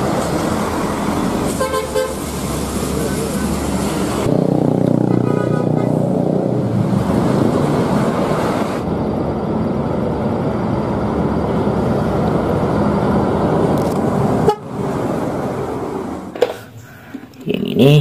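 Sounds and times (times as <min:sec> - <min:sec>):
coach buses driving: 0:00.0 - 0:18.0
traffic: 0:00.0 - 0:18.0.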